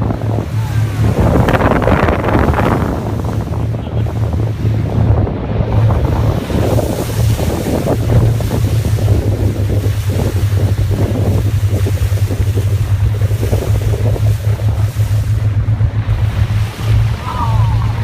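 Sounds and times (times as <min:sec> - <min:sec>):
boat motor humming: 0:00.0 - 0:18.0
sea water rushing: 0:00.0 - 0:18.0
wind buffeting microphone: 0:00.0 - 0:18.0.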